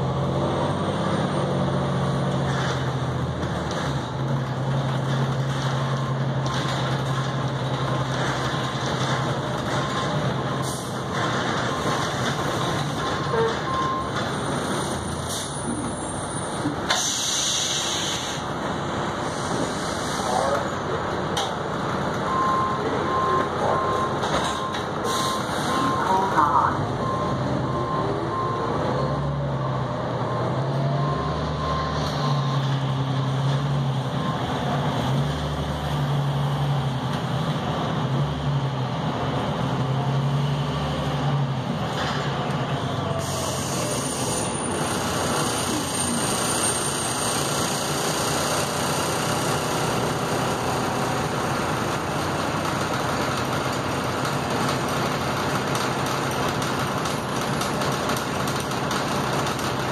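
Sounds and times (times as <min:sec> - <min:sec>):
bus engine hum: 0:00.0 - 0:59.9
road and cabin noise: 0:00.0 - 0:59.9.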